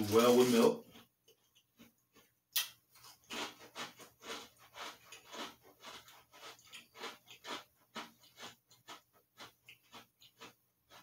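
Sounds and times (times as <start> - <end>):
crunchy chewing: 0.8 - 11.0.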